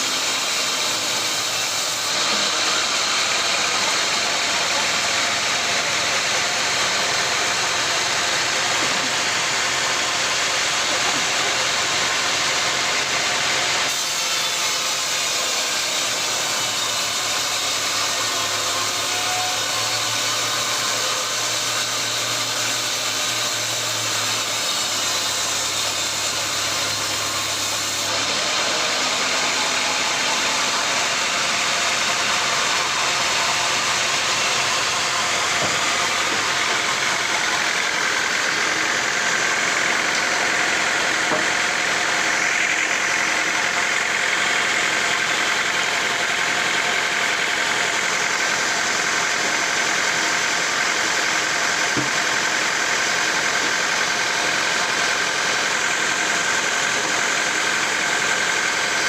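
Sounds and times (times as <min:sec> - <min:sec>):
machinery noise: 0:00.0 - 0:14.1, 0:14.7 - 0:59.0
saw cutting through wood: 0:00.0 - 0:59.0.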